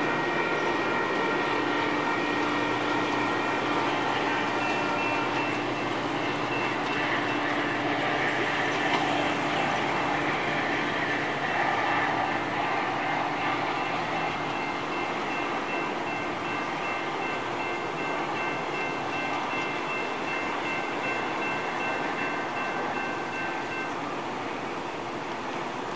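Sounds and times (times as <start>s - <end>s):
high steady tones: 0.0s - 25.0s
train rumbling along tracks: 0.0s - 25.9s.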